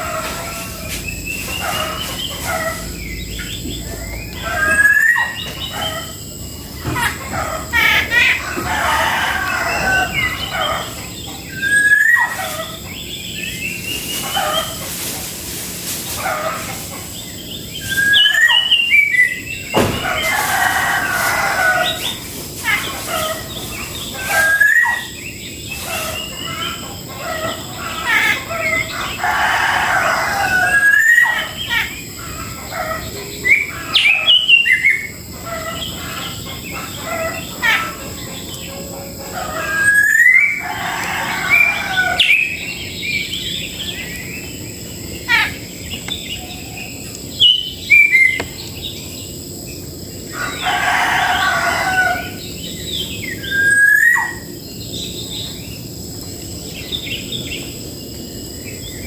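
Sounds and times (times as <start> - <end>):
roosters crowing: 0.0 - 59.0
small birds chirping: 0.0 - 59.0.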